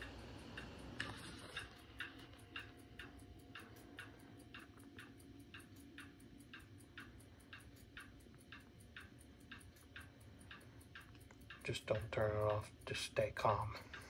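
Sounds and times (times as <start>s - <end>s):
clock ticking: 0.0s - 14.0s
faint hum: 0.0s - 14.0s.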